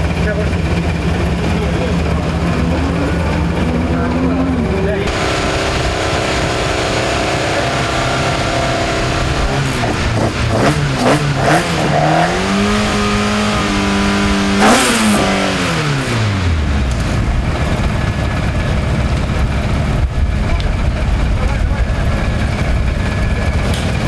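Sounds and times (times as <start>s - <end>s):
car engine idling and revving: 0.0s - 24.0s
loud burst of noise: 0.0s - 24.0s.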